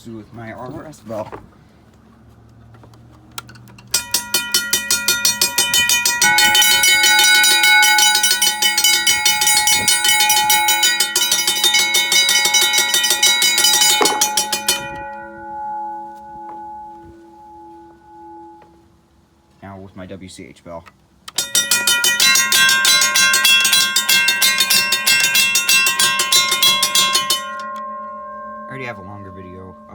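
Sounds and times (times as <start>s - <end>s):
railroad crossing bell ringing: 3.9s - 19.4s, 21.3s - 29.9s.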